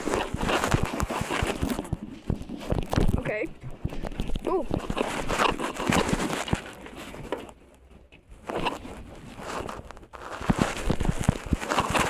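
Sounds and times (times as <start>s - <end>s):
rustling handling noise: 0.0s - 12.0s.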